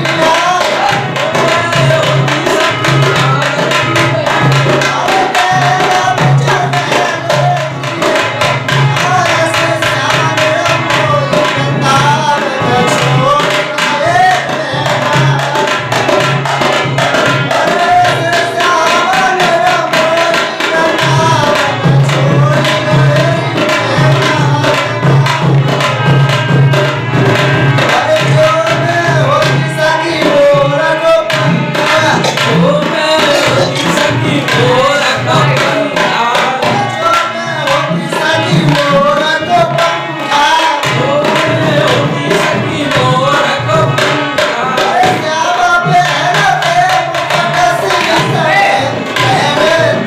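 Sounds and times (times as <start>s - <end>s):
man singing: 0.0s - 50.0s
tabla strokes: 0.0s - 50.0s.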